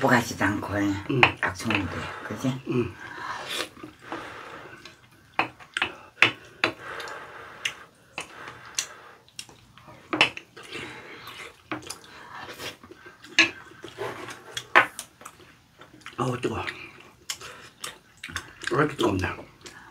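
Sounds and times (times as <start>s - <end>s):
eating sounds: 1.1s - 19.9s.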